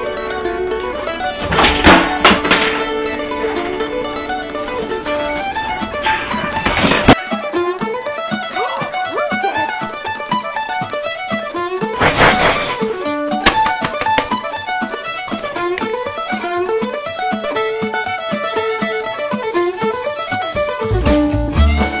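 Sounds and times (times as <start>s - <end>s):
plucked strings: 0.0s - 22.0s
upbeat fiddle music: 0.0s - 22.0s.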